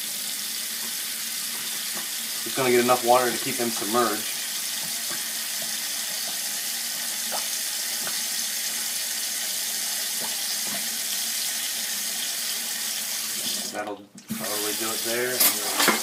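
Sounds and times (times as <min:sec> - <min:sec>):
faucet running into sink: 0:00.0 - 0:16.0.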